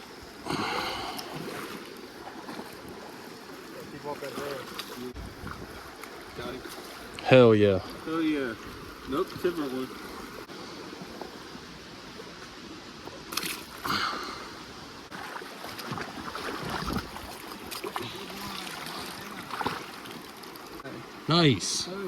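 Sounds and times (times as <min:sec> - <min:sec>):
water splashing and lapping: 0:00.0 - 0:21.3.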